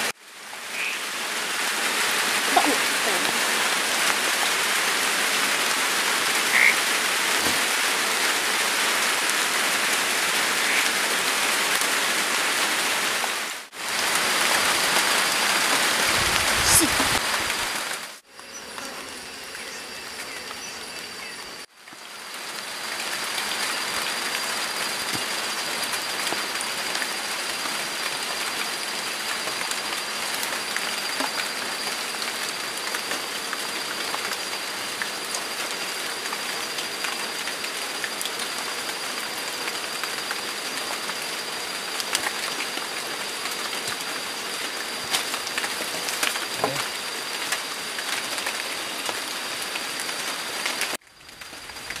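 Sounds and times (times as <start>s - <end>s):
rain falling: 0.0s - 18.2s, 19.5s - 52.0s.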